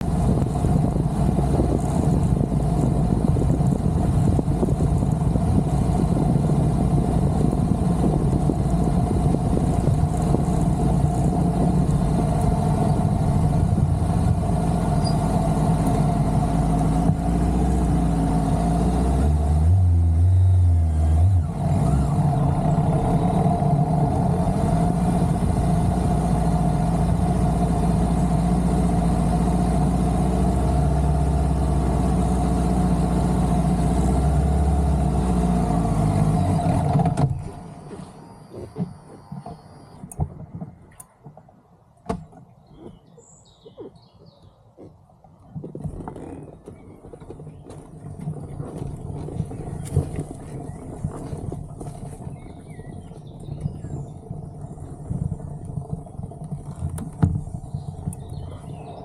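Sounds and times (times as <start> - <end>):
motorcycle engine running: 0.0 - 40.0, 45.6 - 59.0.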